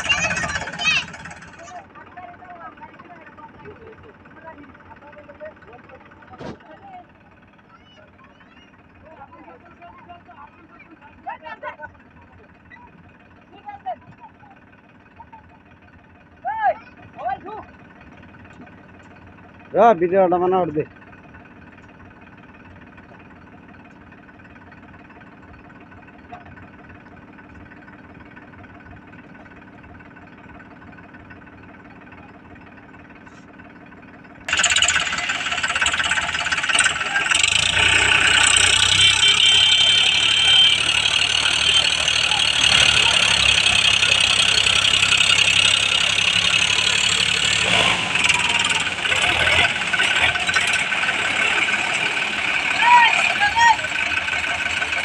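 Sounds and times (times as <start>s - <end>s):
diesel tractor engine: 0.0s - 55.0s.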